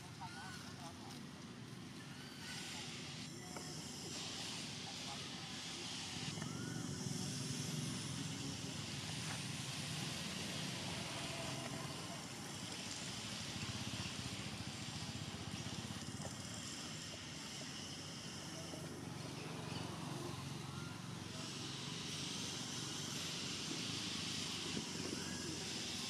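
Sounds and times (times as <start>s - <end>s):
high hiss: 0.0s - 26.0s.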